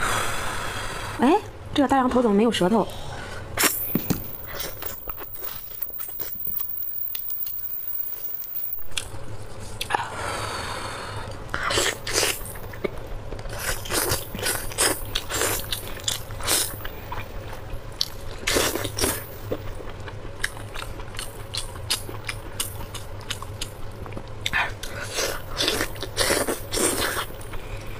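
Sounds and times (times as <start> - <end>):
close-miked biting and chewing: 3.6 - 10.0, 11.6 - 27.9.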